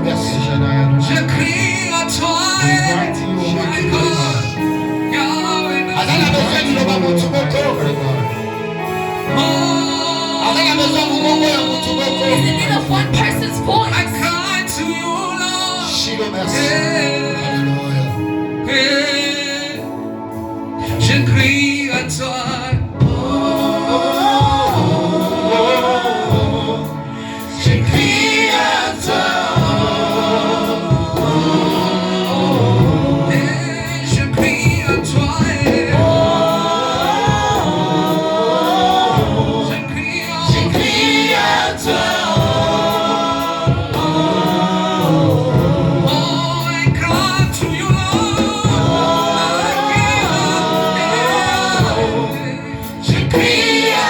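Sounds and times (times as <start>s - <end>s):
group singing gospel: 0.0s - 54.0s
low accompaniment: 0.0s - 54.0s.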